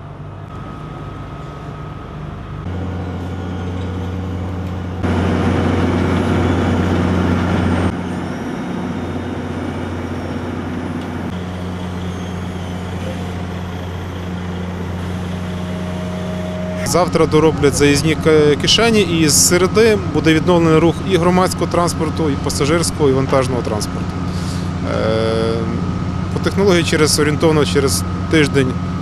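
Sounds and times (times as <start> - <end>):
diesel engines humming: 0.0 - 29.0.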